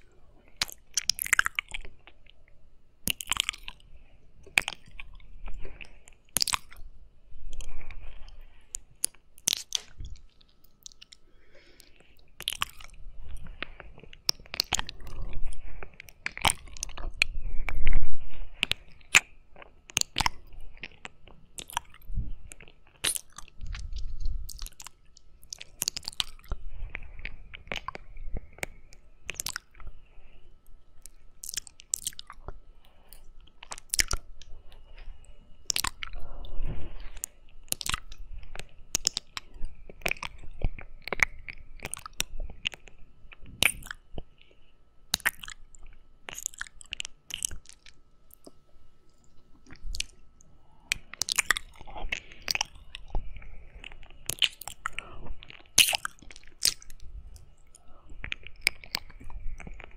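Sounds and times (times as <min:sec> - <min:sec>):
wet licking and lip-smacking: 0:00.6 - 0:02.4, 0:03.0 - 0:03.8, 0:04.4 - 0:06.8, 0:07.5 - 0:17.4, 0:18.5 - 0:29.9, 0:31.0 - 0:36.2, 0:37.0 - 0:50.2, 0:50.9 - 0:59.9.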